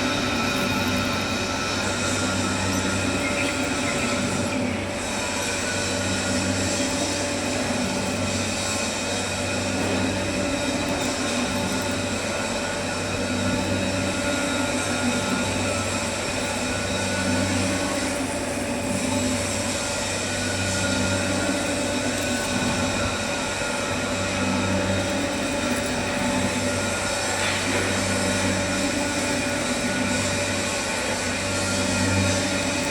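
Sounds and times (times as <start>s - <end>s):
lathe humming and whining: 0.0s - 32.9s.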